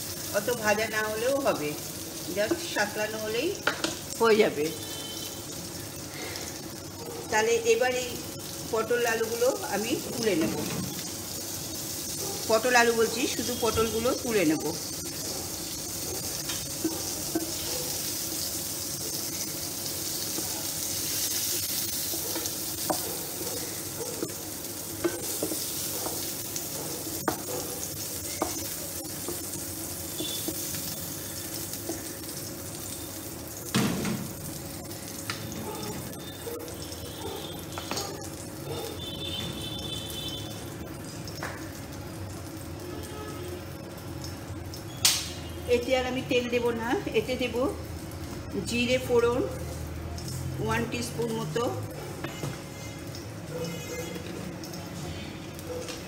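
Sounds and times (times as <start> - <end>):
hot oil sizzling in a pan: 0.0 - 56.0.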